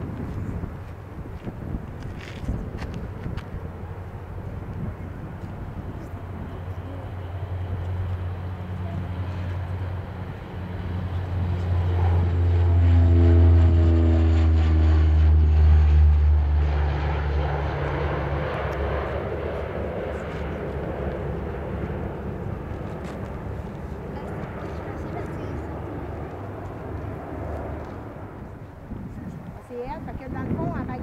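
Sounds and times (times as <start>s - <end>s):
turboprop aircraft drone: 0.0s - 31.0s.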